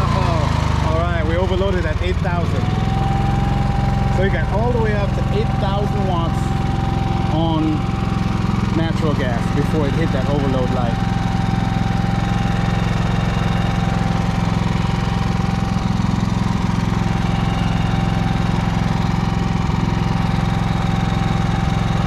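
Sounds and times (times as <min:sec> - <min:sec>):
generator engine running: 0:00.0 - 0:22.0
thin steady whine: 0:00.0 - 0:22.0.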